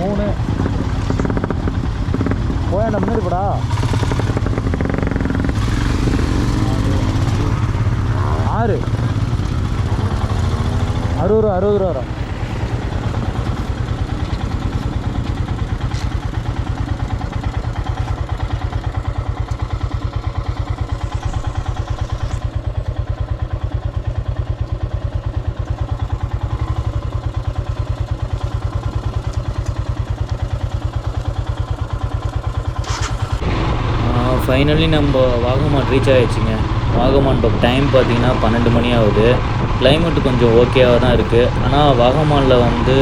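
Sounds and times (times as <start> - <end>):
motorcycle engine pulsing: 0.0 - 43.0.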